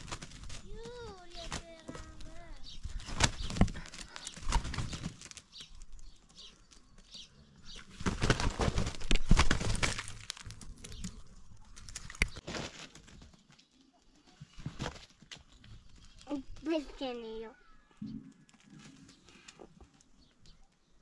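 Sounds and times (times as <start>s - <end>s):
roosters wing flapping and scuffling: 0.0s - 17.4s, 18.3s - 20.8s.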